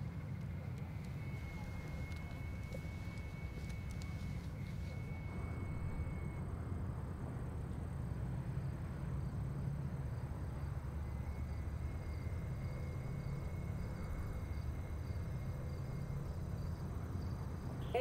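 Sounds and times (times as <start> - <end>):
insects chirping faintly: 0.0 - 6.4, 8.0 - 18.0.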